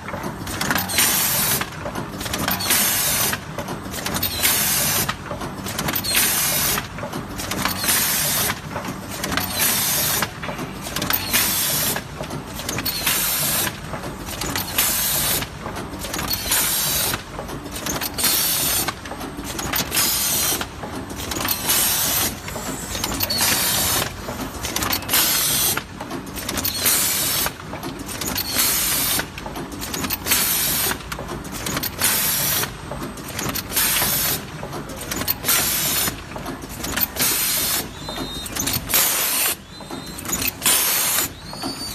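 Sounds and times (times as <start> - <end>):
machine clatter: 0.0 - 41.9.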